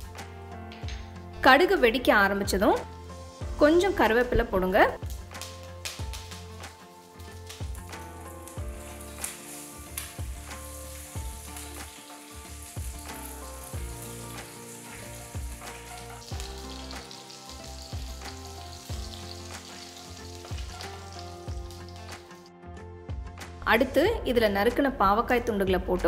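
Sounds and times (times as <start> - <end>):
oil sizzling in a pan: 0.0 - 22.5
background music with steady beat: 0.0 - 26.0.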